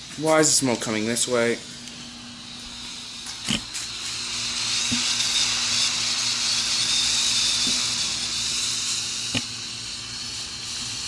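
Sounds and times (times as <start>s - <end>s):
smoke bomb hissing: 1.0s - 11.0s.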